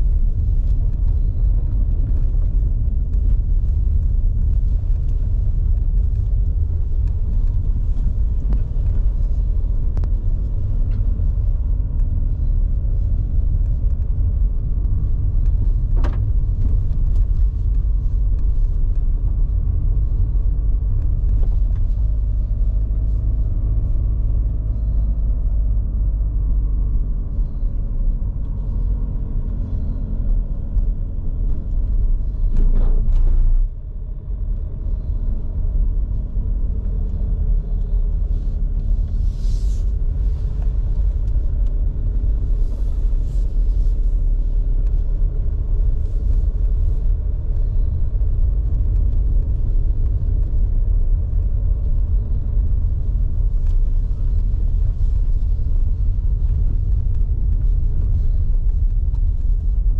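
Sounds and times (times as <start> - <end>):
car interior rumble: 0.0 - 59.9.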